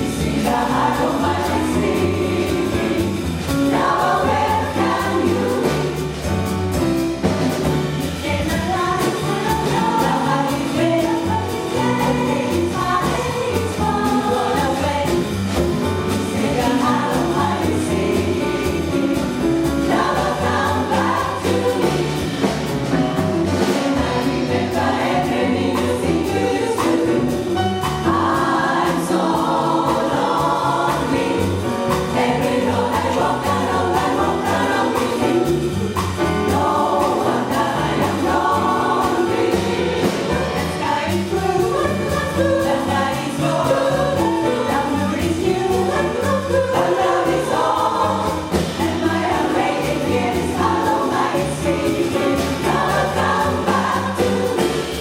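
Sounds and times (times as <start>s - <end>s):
jazz band playing: 0.0s - 55.0s
jazz chorus singing: 0.0s - 55.0s.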